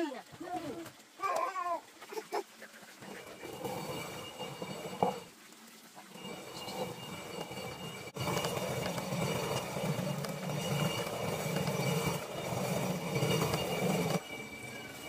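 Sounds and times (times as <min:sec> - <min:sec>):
stone quern grinding: 0:02.9 - 0:15.0.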